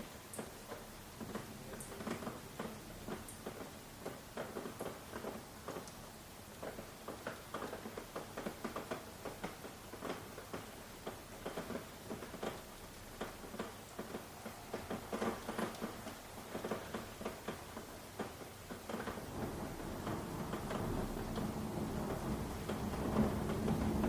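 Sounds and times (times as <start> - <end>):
faint steady hiss: 0.0 - 24.0
raindrops pattering: 0.0 - 24.0.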